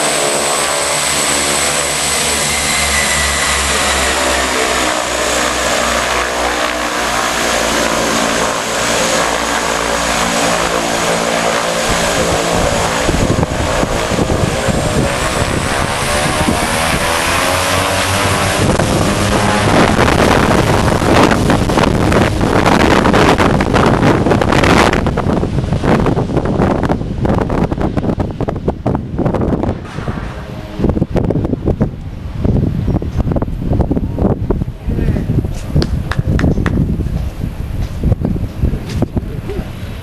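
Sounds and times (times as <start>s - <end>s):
propeller airplane engines droning: 0.0s - 40.0s.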